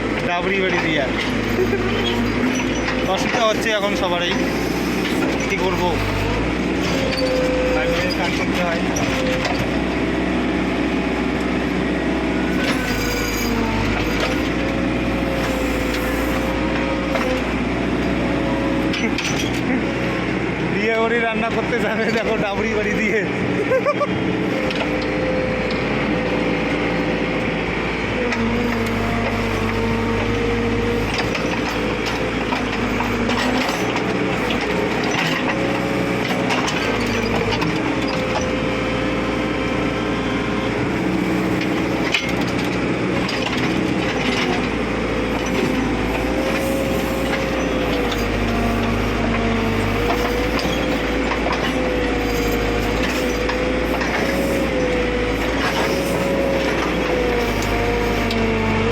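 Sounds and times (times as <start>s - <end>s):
backhoe engine humming: 0.0s - 58.9s.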